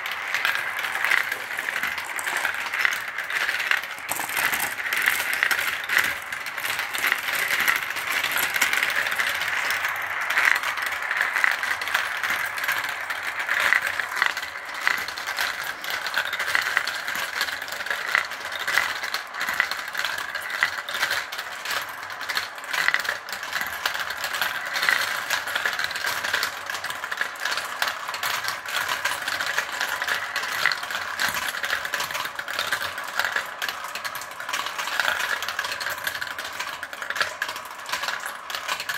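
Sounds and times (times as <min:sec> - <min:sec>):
marbles rattling down plastic run: 0:00.0 - 0:38.9.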